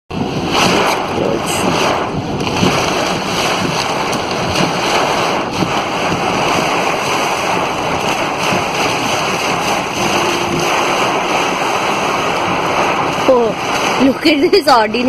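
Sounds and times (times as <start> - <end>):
floodwater flowing: 0.1 - 15.0
heavy rain downpour: 0.1 - 15.0
wind buffeting microphone: 0.1 - 15.0.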